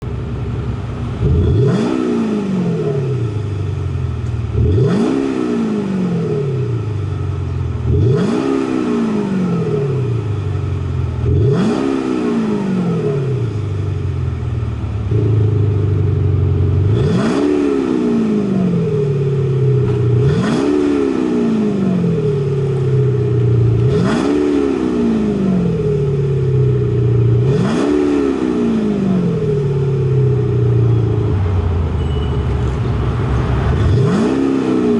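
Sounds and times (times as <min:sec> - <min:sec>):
car engine revving: 0:00.3 - 0:34.9.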